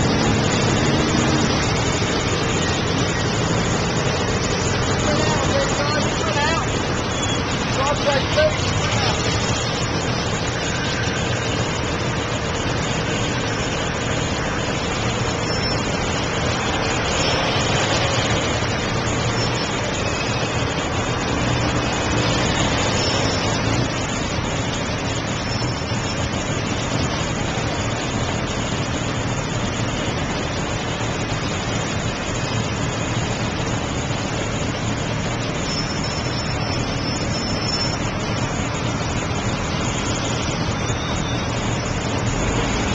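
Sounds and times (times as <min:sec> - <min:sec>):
vehicle engines idling: 0:00.0 - 0:42.9.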